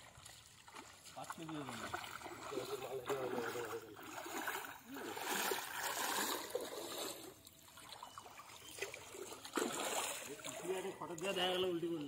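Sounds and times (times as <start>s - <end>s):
water sloshing from wading: 0.0s - 12.0s.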